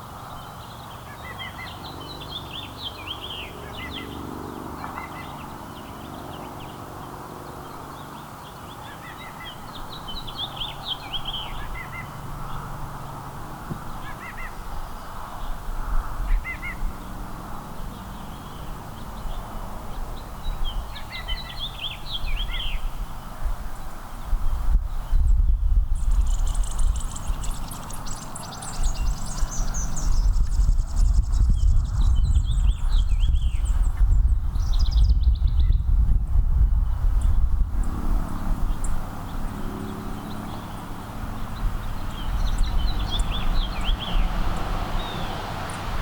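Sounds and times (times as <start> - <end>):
small songbirds chirping: 0.0 - 46.0.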